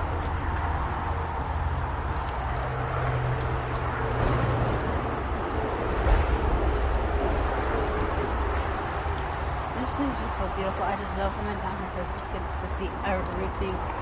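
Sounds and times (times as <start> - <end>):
footsteps on woodland trail: 0.0 - 14.0.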